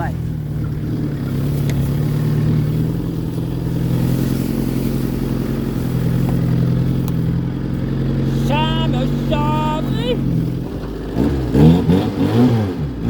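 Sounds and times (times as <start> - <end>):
wheel spinning on grass: 0.0 - 11.2
pickup engine running under load: 0.0 - 13.0.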